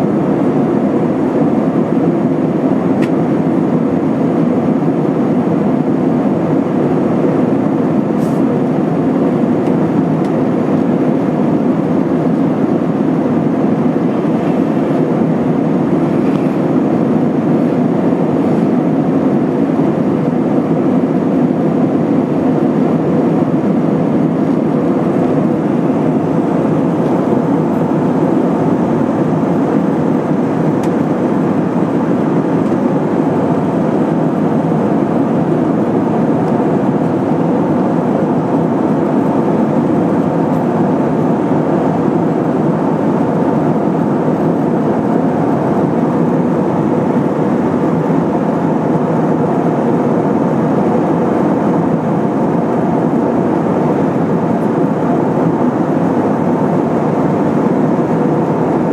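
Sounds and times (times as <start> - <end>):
airliner cabin engine rush: 0.0 - 58.9.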